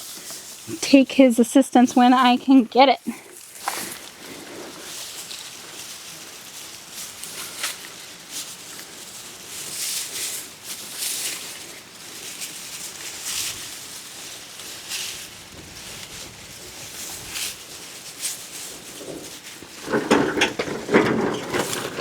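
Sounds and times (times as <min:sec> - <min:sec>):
dry grass rustling: 0:00.0 - 0:22.0.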